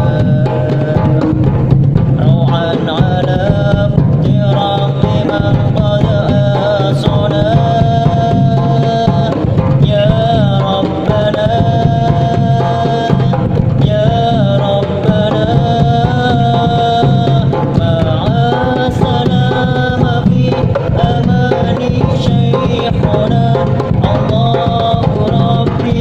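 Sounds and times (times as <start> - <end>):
frame drums and darbuka rhythm: 0.0 - 26.0.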